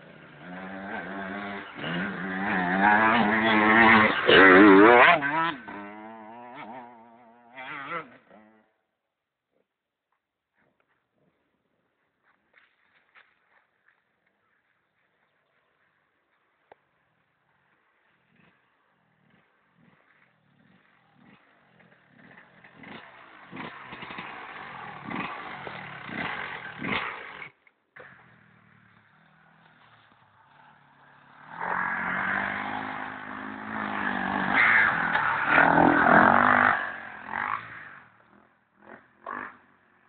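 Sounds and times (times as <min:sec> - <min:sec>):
motorcycle engines revving past: 0:00.0 - 0:08.9, 0:16.8 - 0:40.0.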